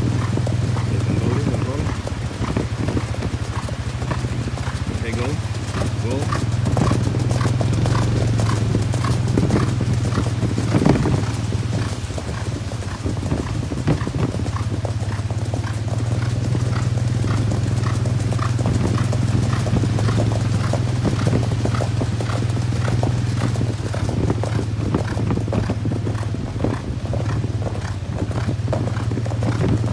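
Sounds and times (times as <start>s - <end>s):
horse hooves on gravel: 0.0s - 29.9s.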